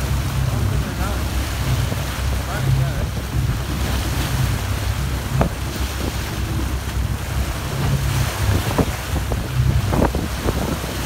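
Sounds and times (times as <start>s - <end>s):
low boat engine hum: 0.0s - 11.0s
water rushing: 0.0s - 11.0s
wind buffeting microphone: 0.0s - 11.0s.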